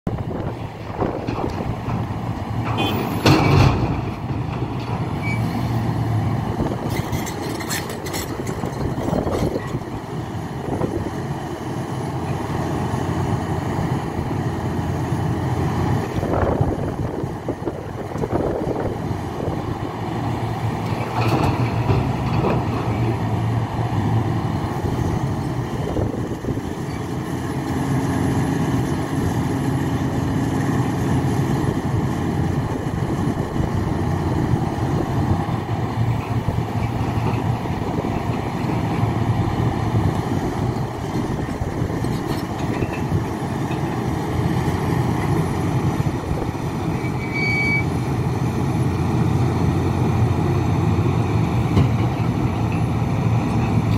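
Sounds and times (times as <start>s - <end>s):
excavator diesel engine running: 0.1s - 53.9s.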